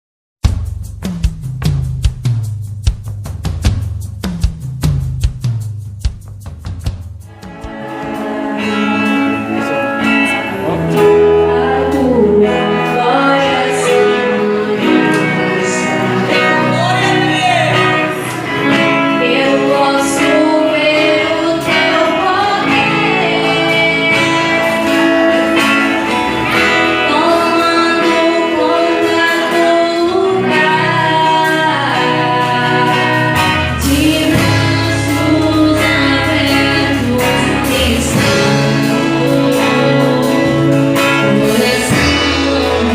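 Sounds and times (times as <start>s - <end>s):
gospel band music: 0.4s - 42.9s
person singing: 7.4s - 42.9s.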